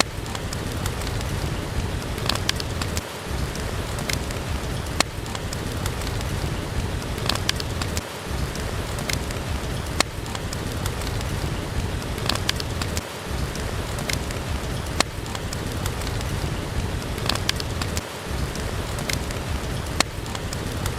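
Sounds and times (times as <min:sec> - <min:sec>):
steady rain: 0:00.0 - 0:20.9
wood fire crackling: 0:00.0 - 0:20.9.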